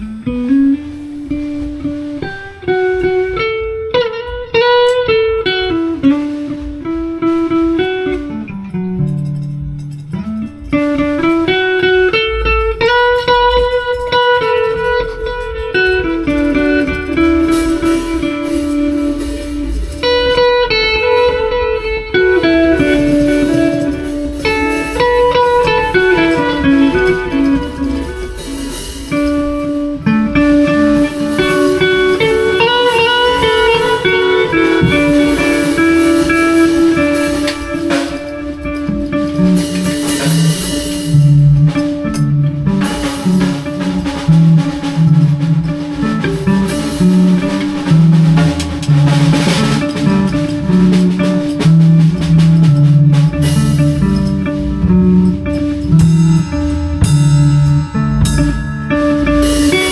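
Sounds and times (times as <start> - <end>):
bass notes: 0.0 - 59.9
guitar melody: 0.0 - 59.9.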